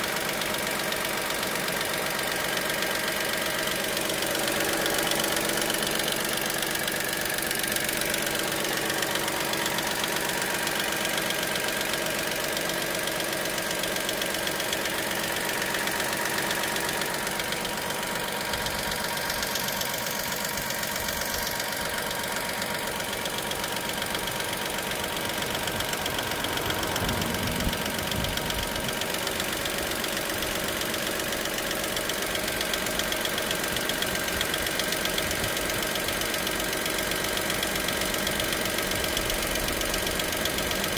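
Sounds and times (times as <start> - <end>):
car engine idling with ticking: 0.0 - 40.9.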